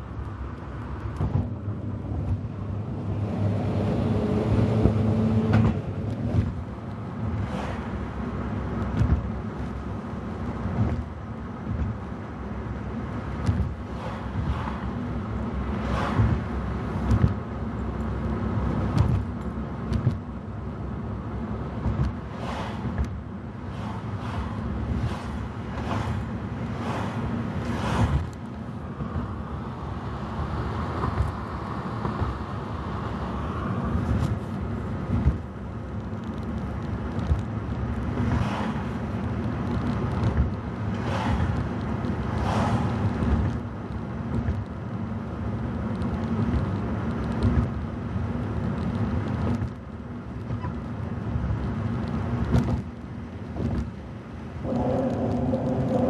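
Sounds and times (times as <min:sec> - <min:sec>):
car road noise rumble: 0:00.0 - 0:56.0.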